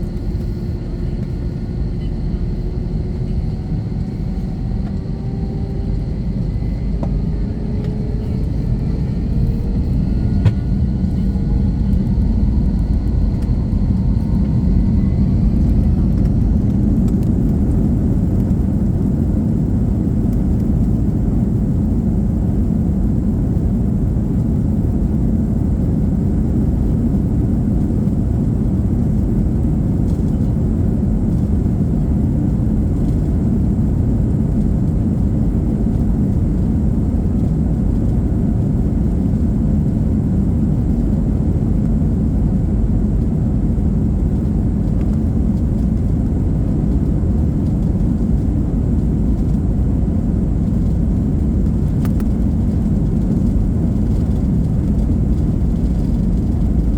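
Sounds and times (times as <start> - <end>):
jet engines roaring in cabin: 0.0 - 56.9.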